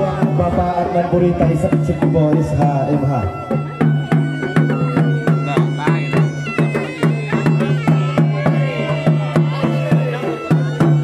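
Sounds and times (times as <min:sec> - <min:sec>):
drum beating quick rhythm: 0:00.0 - 0:11.0
reedy wind instrument melody: 0:00.0 - 0:11.0.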